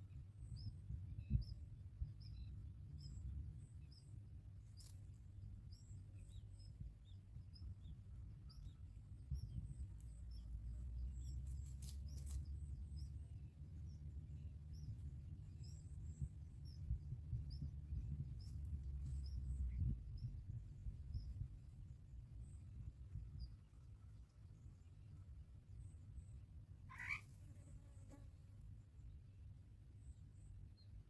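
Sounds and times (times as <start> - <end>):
low rumble: 0.2 - 26.3.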